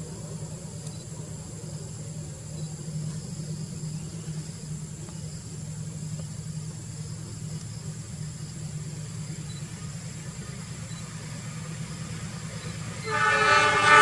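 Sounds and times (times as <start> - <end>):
insects trilling: 0.0 - 14.0
low mechanical hum: 0.0 - 14.0.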